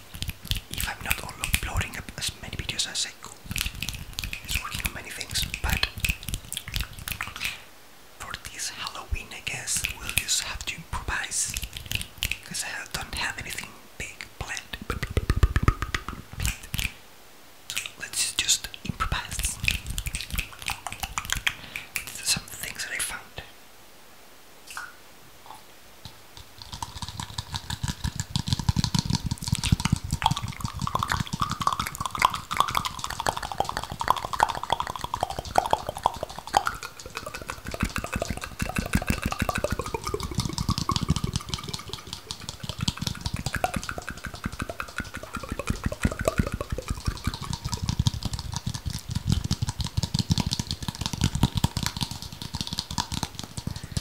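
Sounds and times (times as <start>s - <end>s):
asmr clicks and crackles: 0.0s - 7.6s, 8.2s - 17.0s, 17.7s - 23.2s, 24.7s - 54.0s.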